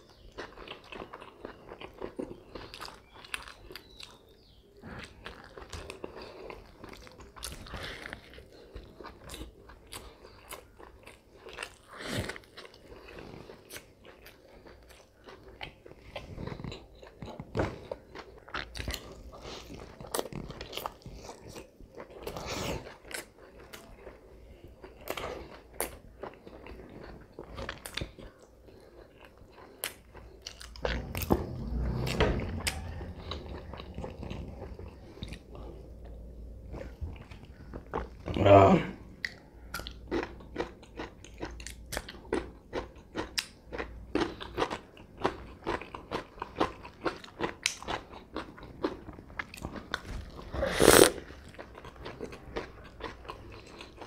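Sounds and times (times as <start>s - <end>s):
chewing and crunching: 0.0s - 38.4s, 39.2s - 54.0s.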